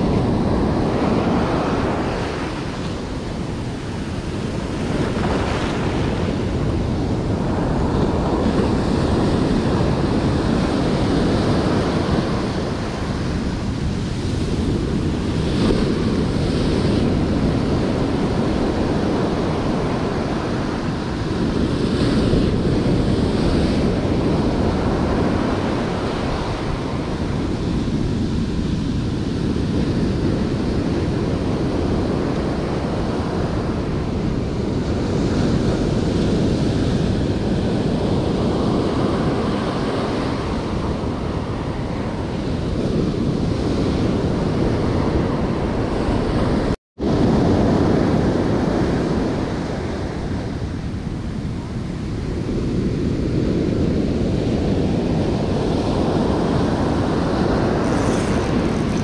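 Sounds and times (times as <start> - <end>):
ocean surf breaking: 0.0 - 59.0.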